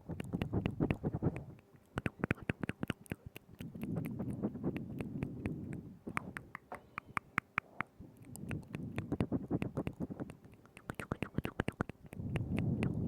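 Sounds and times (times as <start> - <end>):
wet tongue clicks and lip smacks: 0.0 - 13.0.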